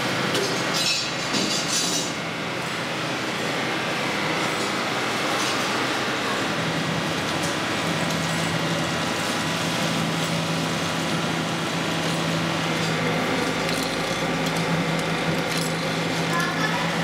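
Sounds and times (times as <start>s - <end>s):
constant low hum: 0.0s - 17.0s
machinery hiss and rumble: 0.0s - 17.0s.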